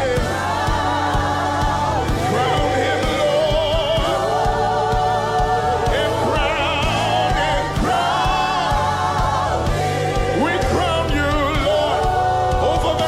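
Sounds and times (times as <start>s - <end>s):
choir singing: 0.0s - 13.0s
keyboard bass and drums: 0.0s - 13.0s.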